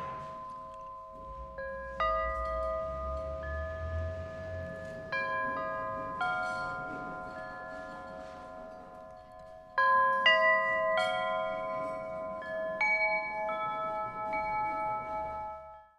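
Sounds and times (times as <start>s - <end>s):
metal chimes ringing: 0.0s - 15.9s.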